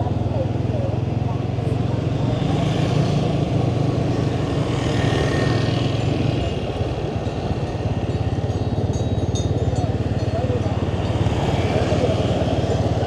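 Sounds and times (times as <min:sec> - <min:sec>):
motorbike engine cruising: 0:00.0 - 0:13.0
wind and road noise: 0:00.0 - 0:13.0.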